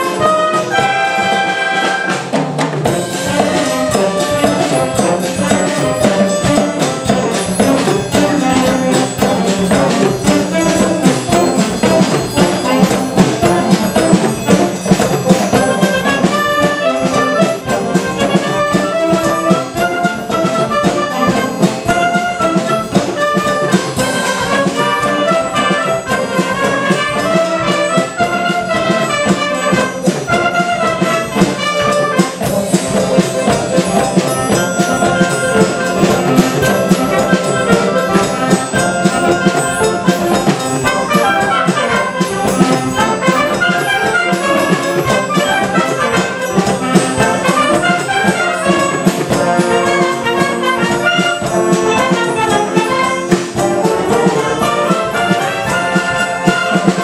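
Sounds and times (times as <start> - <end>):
percussion beat: 0.0 - 57.0
wind band playing mambo: 0.0 - 57.0.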